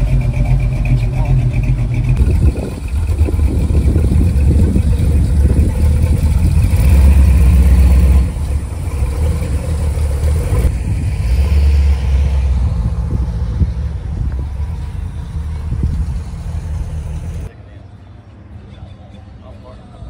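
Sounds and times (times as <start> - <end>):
car engine idling: 0.0 - 17.5.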